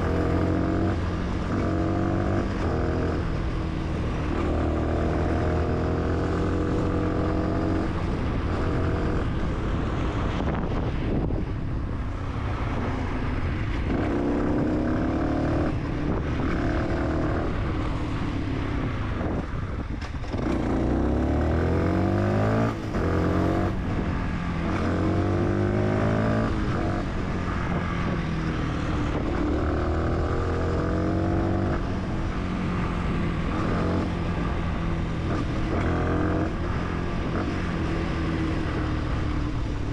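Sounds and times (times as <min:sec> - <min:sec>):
motorcycle engine revving: 0:00.0 - 0:09.7, 0:13.7 - 0:39.9.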